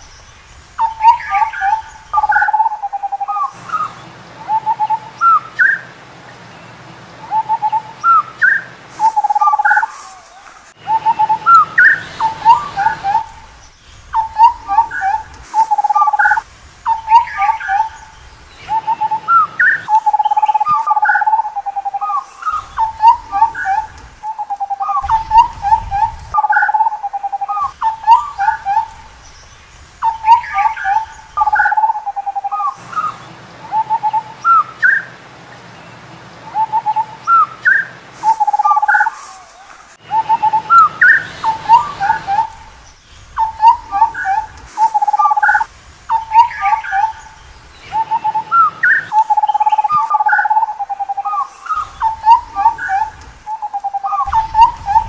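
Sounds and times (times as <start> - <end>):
bird calling in fluty whistles: 0.0 - 6.0, 7.3 - 35.2, 36.5 - 55.0.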